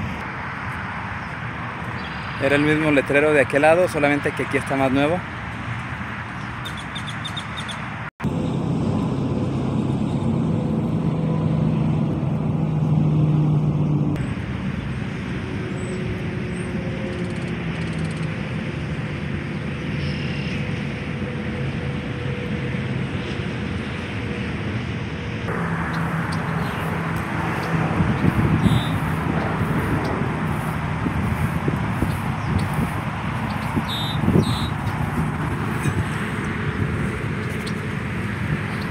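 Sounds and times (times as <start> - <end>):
freeway traffic noise: 0.0 - 38.9
low vehicle drone: 0.0 - 38.9.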